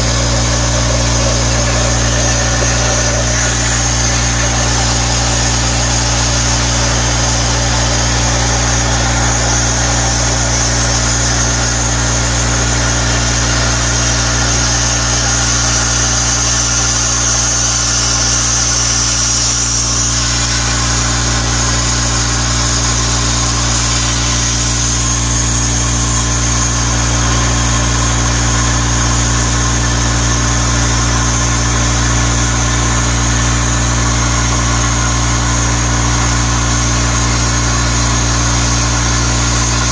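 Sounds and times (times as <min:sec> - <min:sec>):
low machine hum: 0:00.0 - 0:39.9
plasma torch hissing: 0:00.0 - 0:39.9.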